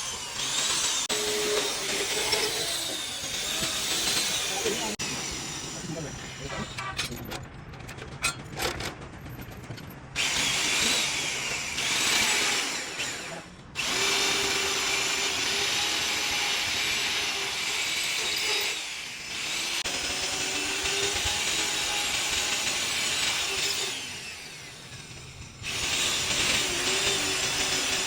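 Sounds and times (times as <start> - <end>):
power tool running on metal: 0.0 - 7.2, 10.2 - 28.0.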